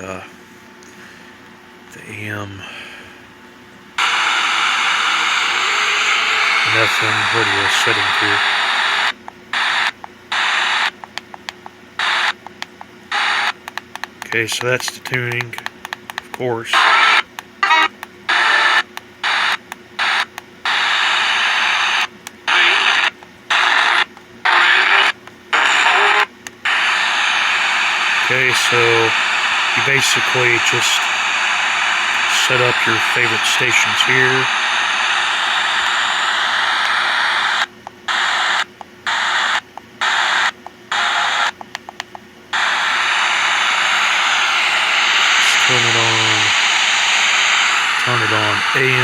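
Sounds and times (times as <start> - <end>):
radio static hiss: 0.0 - 0.3, 2.0 - 3.2, 4.0 - 11.0, 12.0 - 15.7, 16.4 - 41.6, 42.5 - 49.0.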